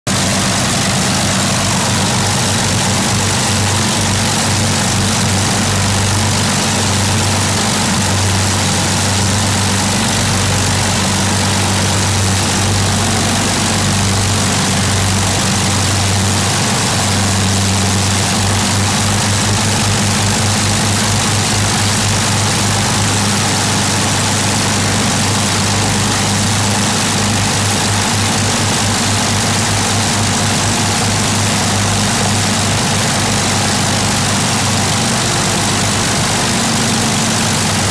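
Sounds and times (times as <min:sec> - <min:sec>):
propeller aircraft engines idling: 0:00.0 - 0:37.9.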